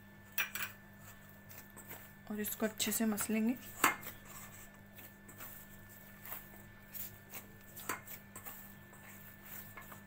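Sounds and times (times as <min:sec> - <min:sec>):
hand kneading dough: 0:01.0 - 0:10.0.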